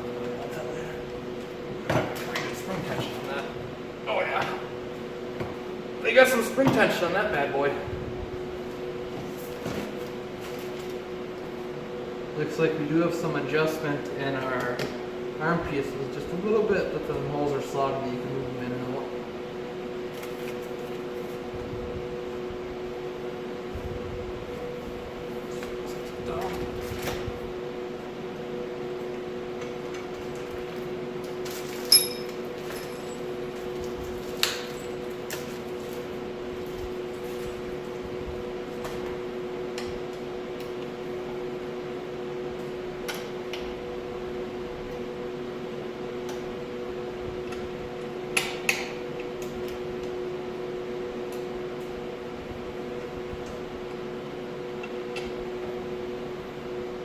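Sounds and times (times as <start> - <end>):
steady two-tone hum: 0.0 - 57.0.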